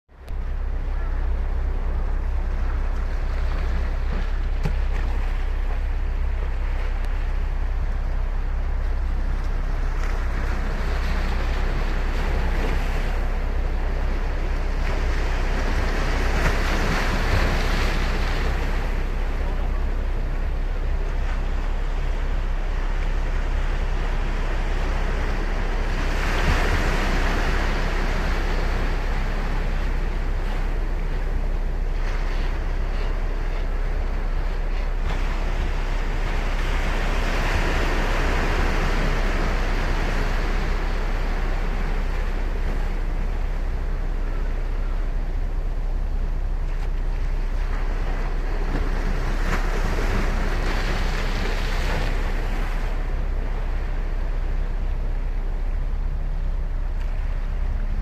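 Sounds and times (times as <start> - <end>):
low rumble: 0.1 - 58.0
waves breaking: 0.1 - 58.0
ocean surf washing onto beach: 0.4 - 58.0.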